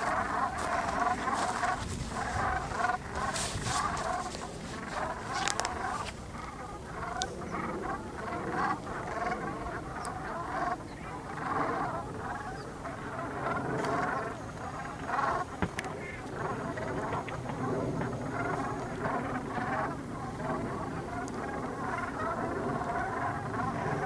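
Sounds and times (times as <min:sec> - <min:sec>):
geese honking: 0:00.0 - 0:24.0.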